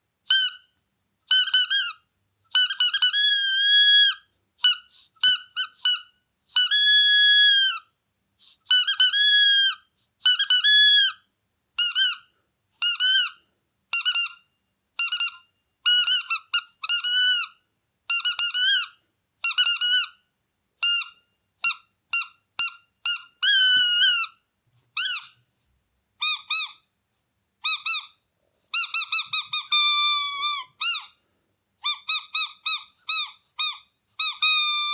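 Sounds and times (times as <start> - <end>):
squeaky dog toy squeaking: 0.2 - 20.2, 20.8 - 25.5, 26.2 - 26.9, 27.6 - 31.2, 31.8 - 34.9.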